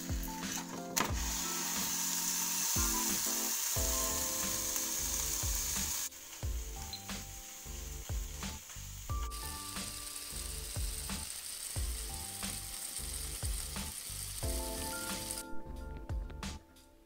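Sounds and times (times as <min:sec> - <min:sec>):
foil packet sizzling in a pan: 0:00.0 - 0:15.5.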